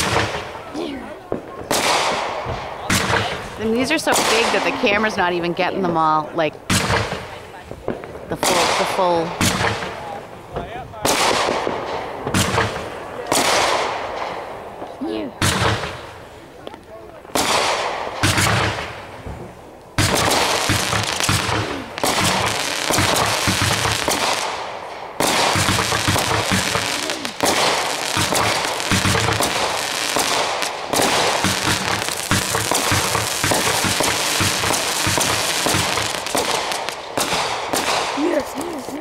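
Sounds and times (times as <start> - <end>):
fireworks booming: 0.0 - 39.0
fireworks crackle: 0.0 - 39.0.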